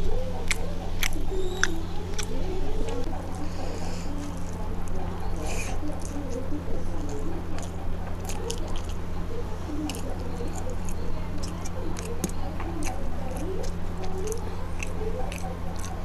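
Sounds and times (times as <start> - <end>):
steady low hum: 0.0 - 16.0
wet chewing and lip smacks: 0.0 - 16.0.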